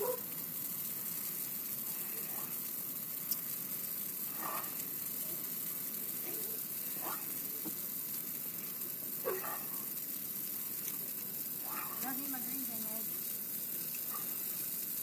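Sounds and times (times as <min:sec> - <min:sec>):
flames hissing and rushing: 0:00.3 - 0:15.0.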